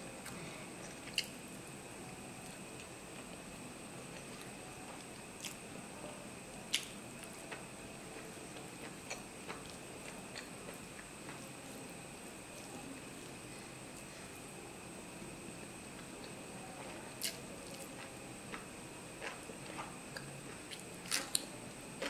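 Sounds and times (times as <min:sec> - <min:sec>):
soft chewing: 0:00.1 - 0:14.6, 0:15.5 - 0:22.0.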